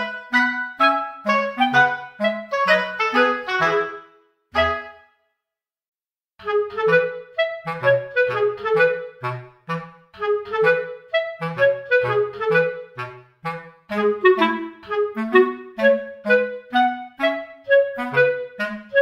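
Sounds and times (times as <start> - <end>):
bouncy background music: 0.0 - 5.1, 6.4 - 19.0.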